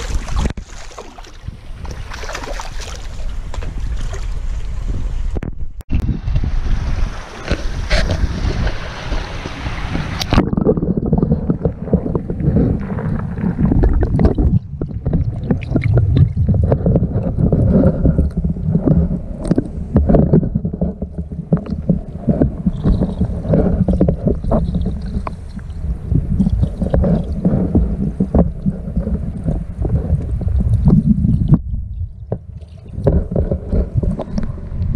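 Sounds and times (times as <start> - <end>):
muffled underwater rumble: 1.3 - 34.9.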